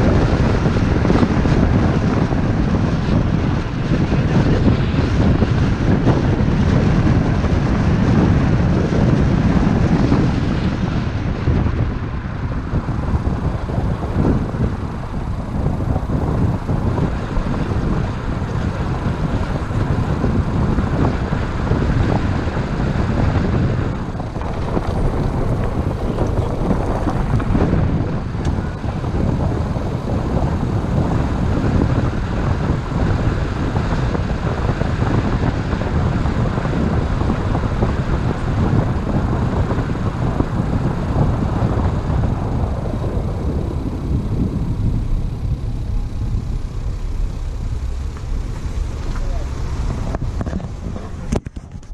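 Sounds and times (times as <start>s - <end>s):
car road and engine noise: 0.0s - 51.9s
wind rumbling on microphone: 0.0s - 51.9s.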